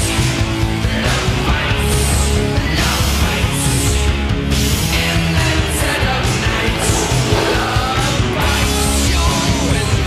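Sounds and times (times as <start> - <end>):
heavy rock music: 0.9 - 9.4.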